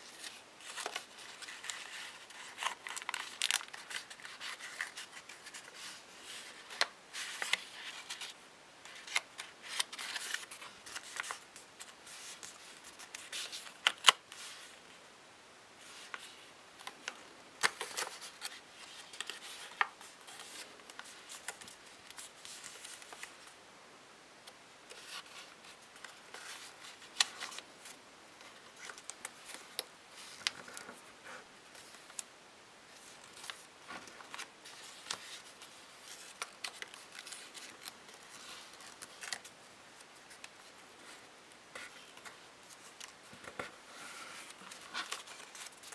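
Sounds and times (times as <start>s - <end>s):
paper rustling and creasing: 0.0s - 14.8s, 15.8s - 23.5s, 24.9s - 32.3s, 32.9s - 45.9s.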